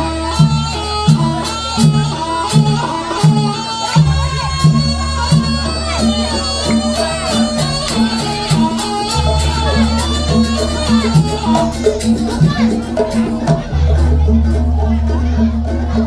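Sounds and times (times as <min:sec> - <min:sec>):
reedy wind instrument melody: 0:00.0 - 0:13.4
drum strokes: 0:00.0 - 0:16.0
low pitched percussion: 0:00.0 - 0:16.0.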